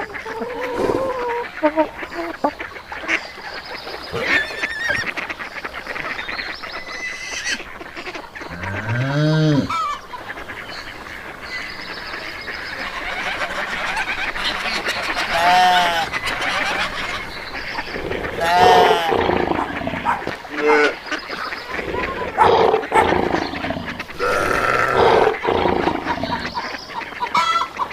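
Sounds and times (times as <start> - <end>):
farm animal calls: 0.0 - 27.9.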